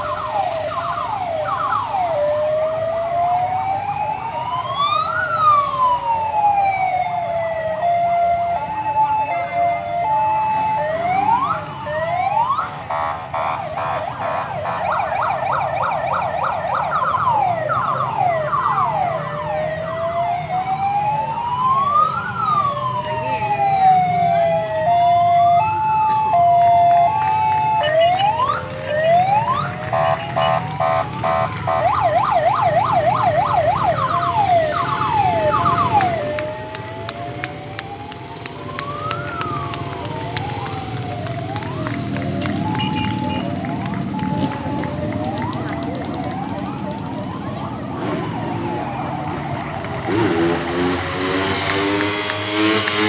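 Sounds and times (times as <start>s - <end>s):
emergency vehicle sirens: 0.0s - 53.0s.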